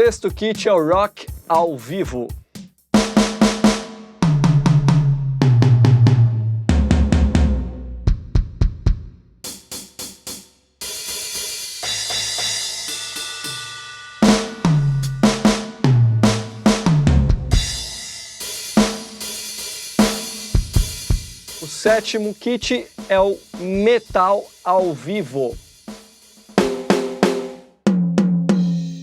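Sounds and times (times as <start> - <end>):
electronic drum tom fills: 0.0 - 29.0.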